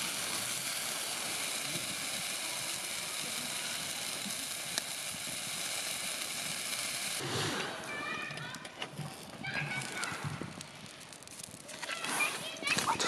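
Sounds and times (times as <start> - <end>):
campfire hissing: 0.0 - 13.0
fire crack: 0.0 - 13.0.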